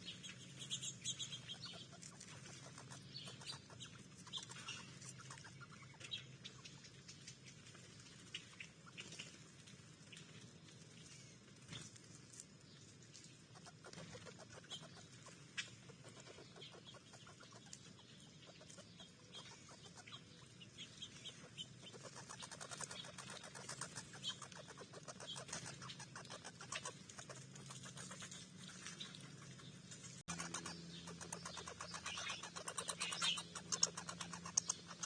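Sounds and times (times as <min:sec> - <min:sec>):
animals clicking and crunching feed: 0:00.0 - 0:35.0.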